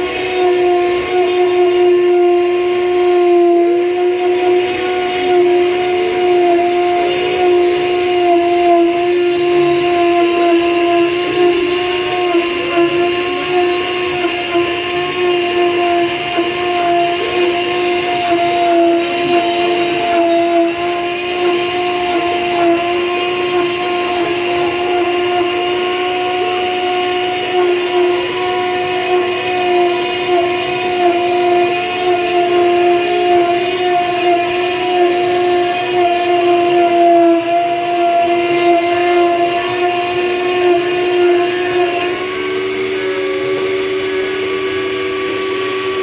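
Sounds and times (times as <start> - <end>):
spindle motor whining: 0.0 - 46.0.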